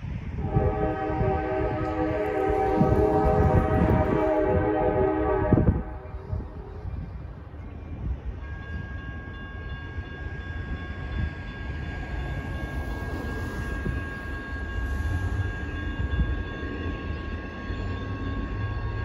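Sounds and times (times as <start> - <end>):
freight train low rumble: 0.0 - 19.0.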